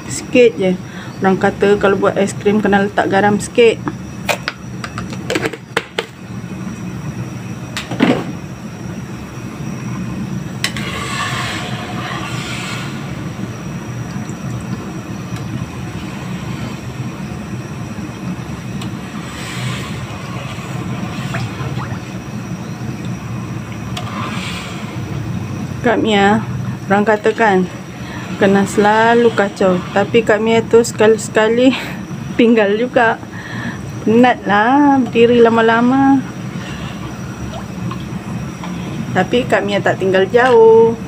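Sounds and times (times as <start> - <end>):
gas burner rushing: 3.4 - 41.0.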